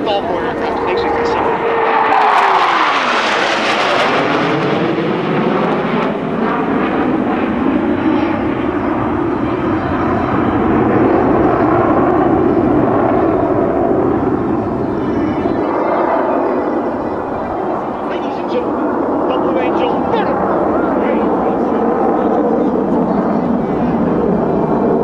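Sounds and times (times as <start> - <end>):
jets flying past overhead: 0.0 - 25.0.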